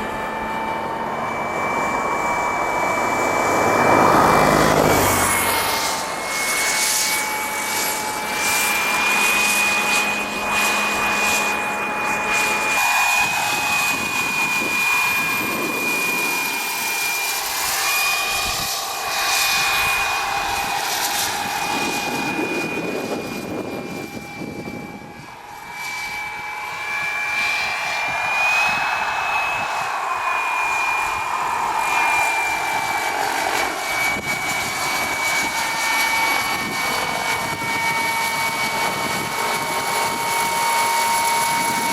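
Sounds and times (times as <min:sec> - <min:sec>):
gas turbine whine: 0:00.0 - 0:41.9.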